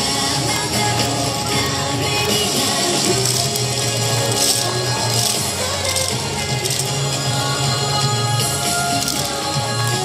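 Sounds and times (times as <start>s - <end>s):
dance song: 0.0s - 10.0s.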